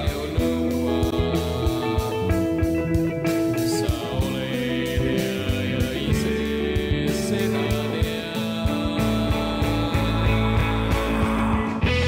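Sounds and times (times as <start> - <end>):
background song with steady beat: 0.0 - 12.0.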